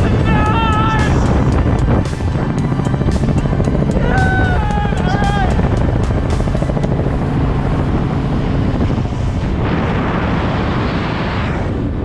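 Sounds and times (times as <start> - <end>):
helicopter hum overhead: 0.0 - 12.0
rush of freefall wind: 0.0 - 12.0
wind buffeting microphone: 0.0 - 12.0.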